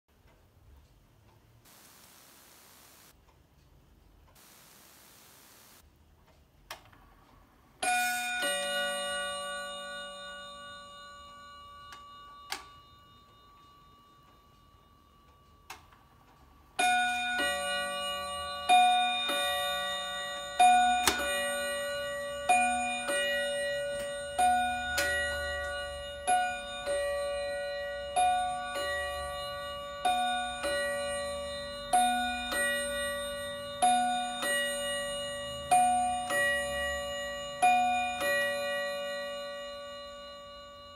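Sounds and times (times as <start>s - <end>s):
wall clock bim-bam chime: 7.4s - 40.9s.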